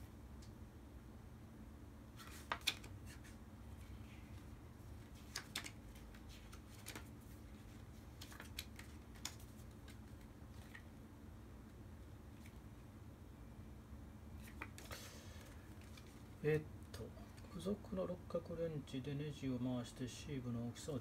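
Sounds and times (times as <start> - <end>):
faint room hum: 0.0 - 21.0.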